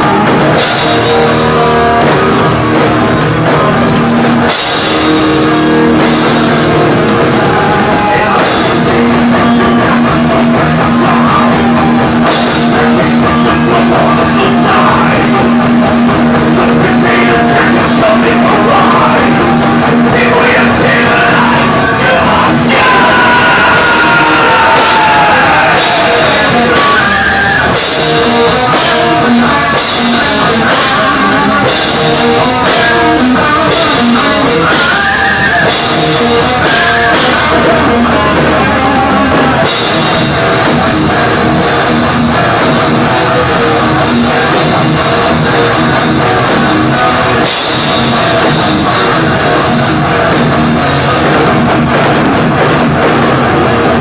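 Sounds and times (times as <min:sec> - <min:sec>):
thrash metal band playing live: 0:00.0 - 0:54.0.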